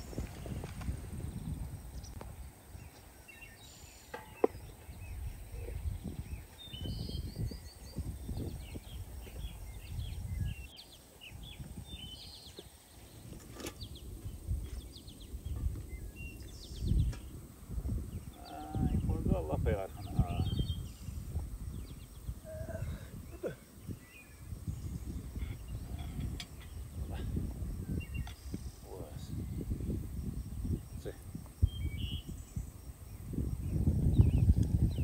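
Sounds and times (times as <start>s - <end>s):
small birds chirping: 0.0s - 35.0s
wind gusting on microphone: 0.0s - 35.0s.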